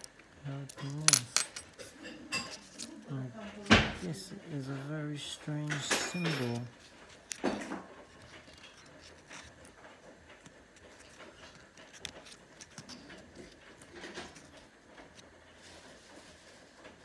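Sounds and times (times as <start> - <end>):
paper crinkling: 0.0 - 16.6.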